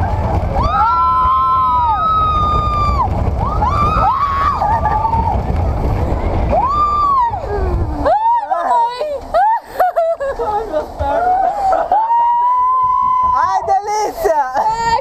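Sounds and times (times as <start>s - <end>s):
riders screaming: 0.0s - 9.7s, 11.0s - 15.0s
ride rumbling: 0.0s - 15.0s.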